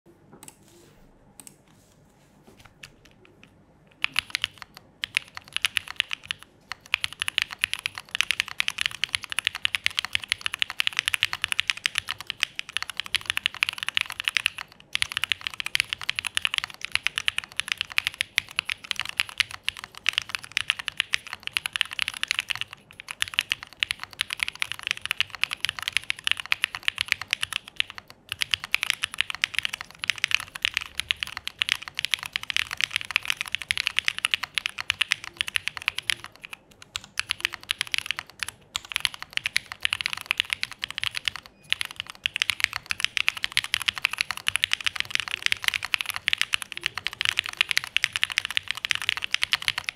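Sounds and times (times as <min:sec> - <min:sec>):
mechanical keyboard typing: 0:02.6 - 0:49.9.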